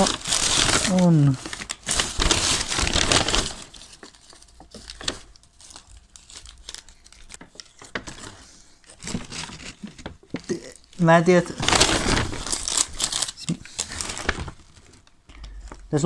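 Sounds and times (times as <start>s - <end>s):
paper wrapper crinkling: 0.0s - 16.0s
plastic bag rustling: 0.0s - 16.0s.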